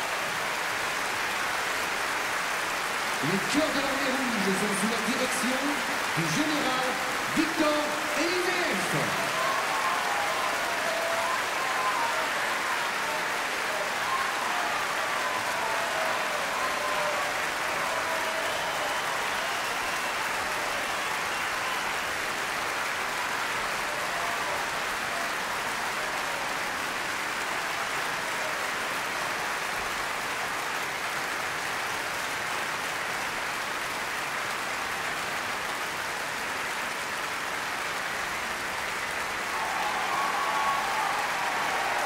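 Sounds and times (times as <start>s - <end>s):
audience applauding: 0.0s - 42.0s.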